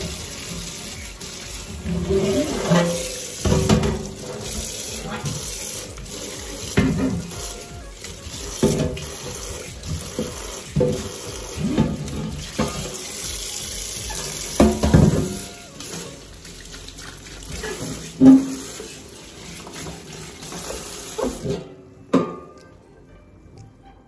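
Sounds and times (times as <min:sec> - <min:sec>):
tap water running onto tray: 0:00.0 - 0:21.6.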